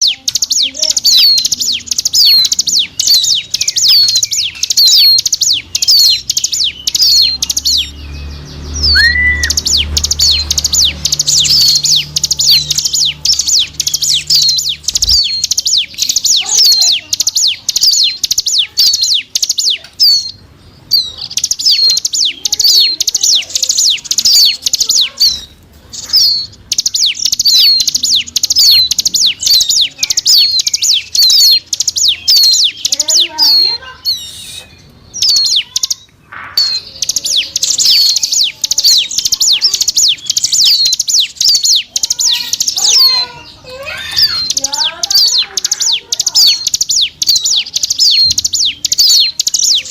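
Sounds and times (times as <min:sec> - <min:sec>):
bird singing rapid high notes: 0:00.0 - 0:49.9.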